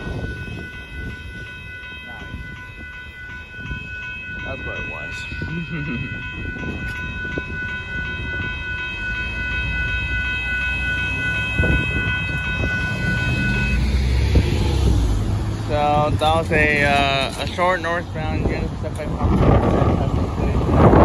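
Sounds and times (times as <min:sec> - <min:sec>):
railroad crossing bells ringing: 0:00.0 - 0:21.0
road traffic rumbling: 0:00.0 - 0:21.0.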